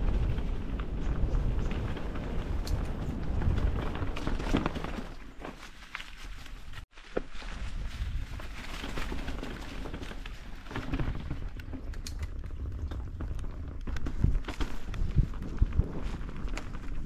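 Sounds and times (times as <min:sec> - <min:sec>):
bike rattling over bumps: 0:00.0 - 0:17.0
bike tyres crunching on dirt: 0:00.0 - 0:17.0.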